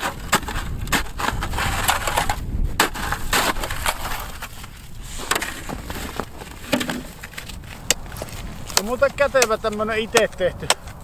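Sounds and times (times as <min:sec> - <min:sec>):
crunching scraping of snow and ice: 0:00.0 - 0:11.0.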